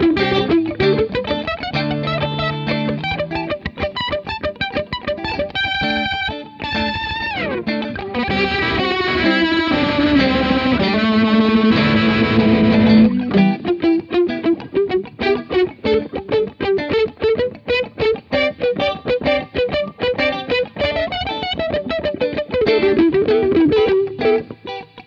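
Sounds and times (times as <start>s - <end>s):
electric guitars with rotary warble: 0.0s - 25.0s.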